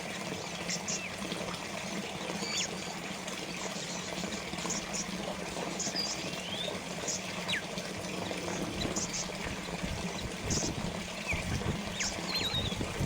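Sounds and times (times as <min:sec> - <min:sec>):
water fountain trickling: 0:00.0 - 0:13.0.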